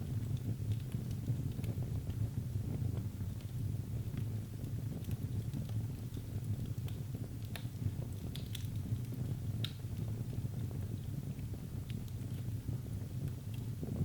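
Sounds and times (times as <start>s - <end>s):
fire crackles and pops: 0.0s - 14.0s
flames rumbling: 0.0s - 14.0s.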